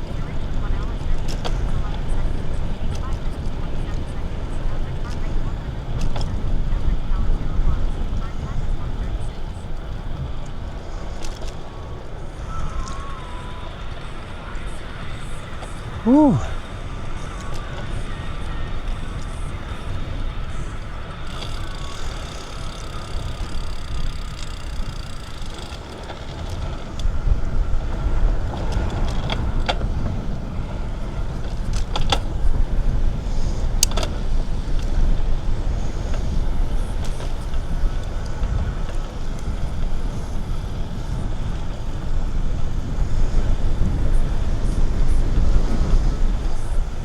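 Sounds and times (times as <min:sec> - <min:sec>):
bicycle tyre noise: 0:00.0 - 0:47.0
wind rumble on microphone: 0:00.0 - 0:47.0.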